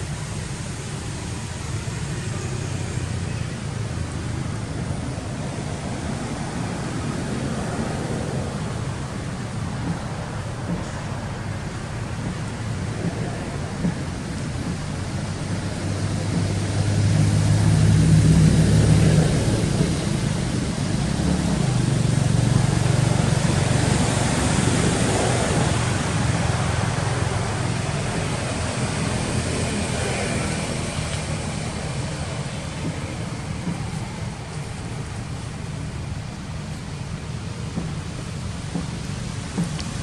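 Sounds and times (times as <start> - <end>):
motor engine humming: 0.0 - 40.0
noisy background: 0.0 - 40.0.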